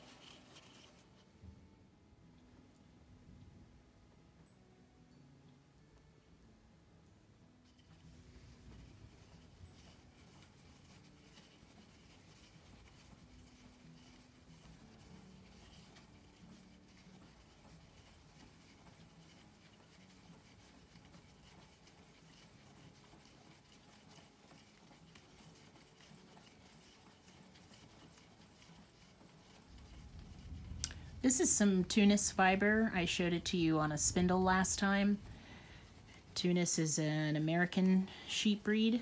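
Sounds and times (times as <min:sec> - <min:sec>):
yarn rubbing and scratching: 0:00.0 - 0:01.5, 0:07.6 - 0:39.0.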